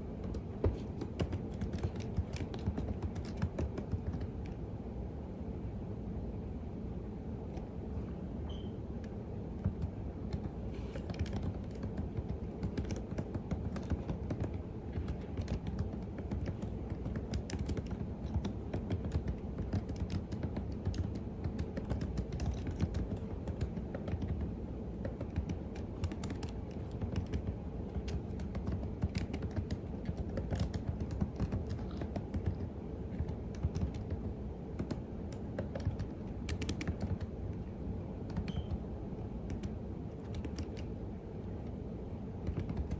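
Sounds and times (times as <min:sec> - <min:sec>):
low background hum: 0:00.0 - 0:42.9
keyboard key clicks: 0:00.2 - 0:04.6, 0:09.0 - 0:37.3, 0:38.3 - 0:38.8, 0:39.5 - 0:40.9, 0:42.4 - 0:42.9.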